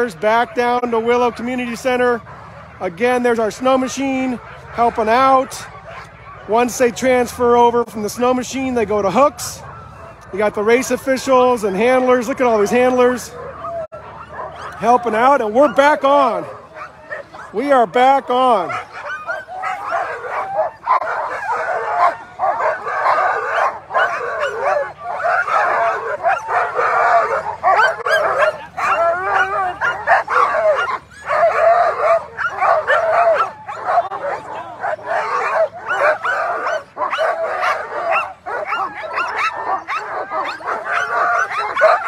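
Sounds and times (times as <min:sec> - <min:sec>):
sled dogs barking and howling: 0:00.0 - 0:42.0.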